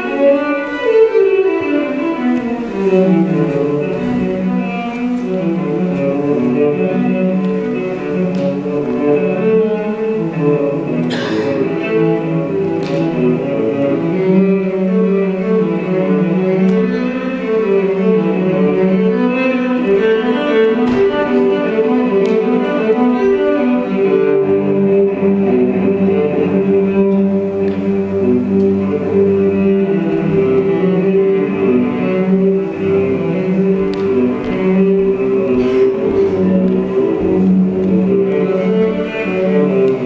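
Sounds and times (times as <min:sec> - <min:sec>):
bowed strings with cello: 0:00.0 - 0:40.0.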